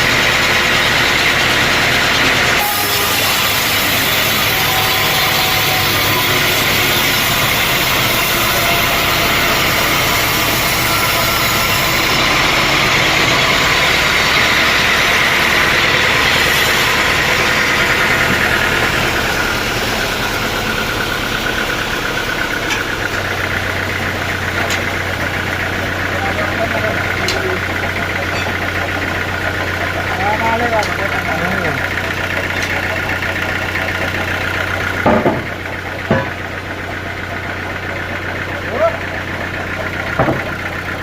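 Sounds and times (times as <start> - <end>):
low engine drone: 0.0 - 41.0
sawmill saw cutting log: 0.0 - 41.0.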